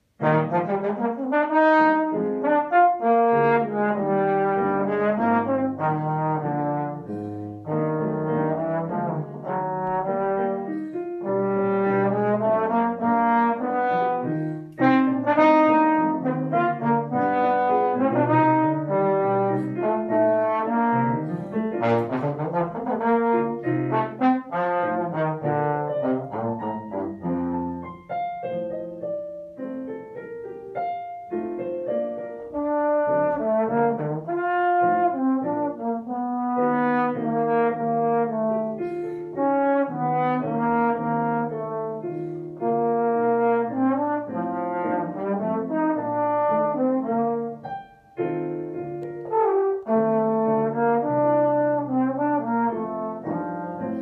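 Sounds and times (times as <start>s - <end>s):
piano accompaniment: 0.0s - 54.0s
trombone melody: 0.1s - 28.0s, 31.9s - 47.9s, 49.2s - 54.0s.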